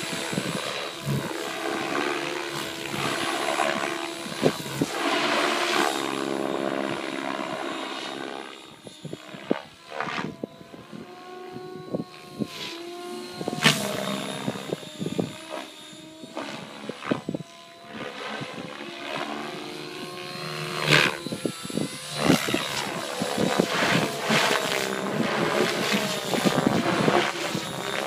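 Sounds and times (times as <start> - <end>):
rc helicopter rotor whirring: 0.0 - 28.0.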